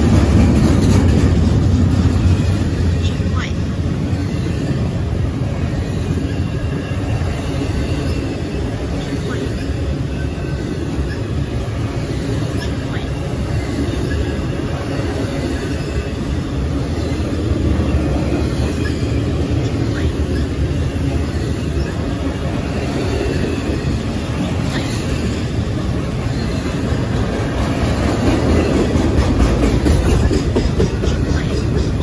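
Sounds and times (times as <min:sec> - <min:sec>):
freight train wheels rumbling on rail: 0:00.0 - 0:32.0.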